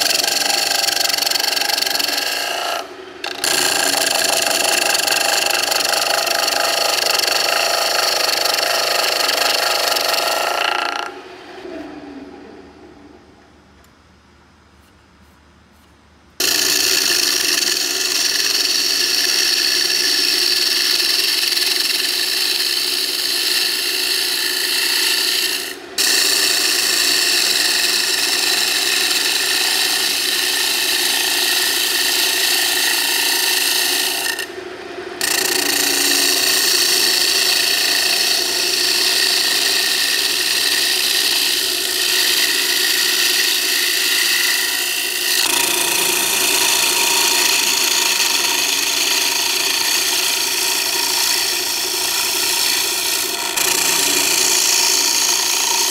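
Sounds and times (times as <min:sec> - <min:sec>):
chisel scraping wood on lathe: 0:00.0 - 0:11.2, 0:16.4 - 0:34.5, 0:35.2 - 0:55.9
wood lathe running: 0:00.0 - 0:11.3, 0:16.4 - 0:55.9.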